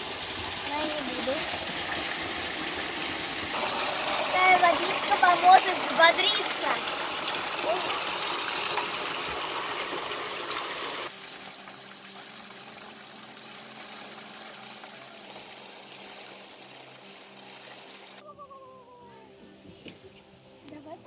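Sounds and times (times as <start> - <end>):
water gushing and splashing: 0.0 - 18.2.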